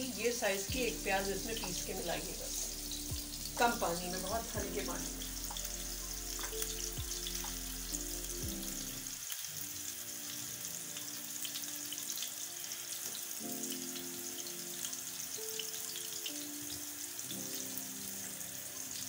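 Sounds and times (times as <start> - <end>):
background music: 0.0 - 19.0
meat sizzling in oil: 0.0 - 19.0.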